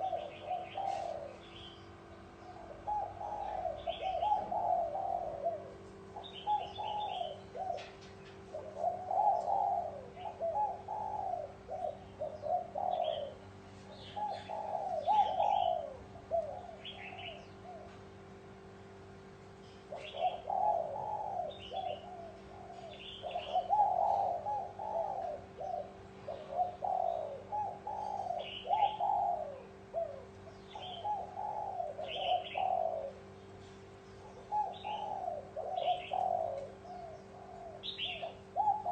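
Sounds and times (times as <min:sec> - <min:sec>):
doves cooing: 0:00.0 - 0:38.9
faint steady hum: 0:00.0 - 0:38.9.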